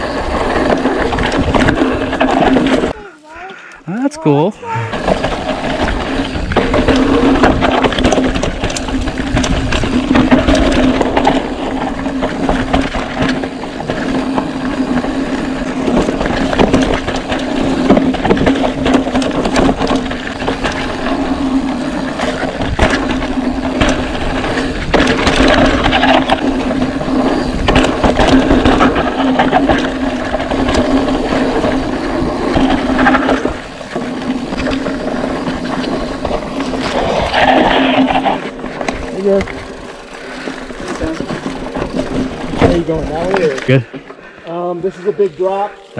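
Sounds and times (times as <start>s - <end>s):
mountain bike rattling over trail: 0.0s - 45.9s
tyres crunching on dirt: 0.0s - 45.9s.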